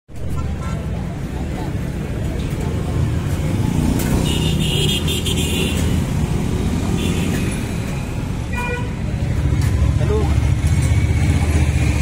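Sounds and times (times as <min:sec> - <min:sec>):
road traffic engines: 0:00.1 - 0:12.0.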